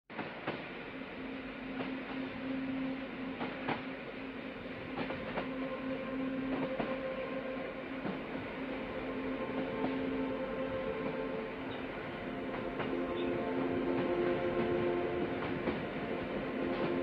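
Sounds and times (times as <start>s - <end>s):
train rumbling on rails: 0.1s - 17.0s.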